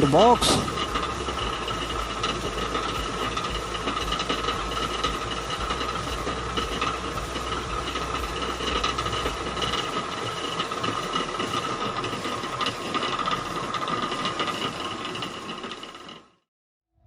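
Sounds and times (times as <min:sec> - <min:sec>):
water mill millstone grinding: 0:00.0 - 0:16.3
mechanical rattle with ringing tone: 0:00.0 - 0:16.4.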